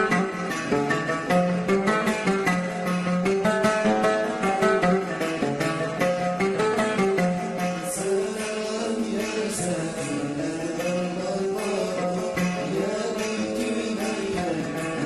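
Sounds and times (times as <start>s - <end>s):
plucked string accompaniment: 0.0s - 15.0s.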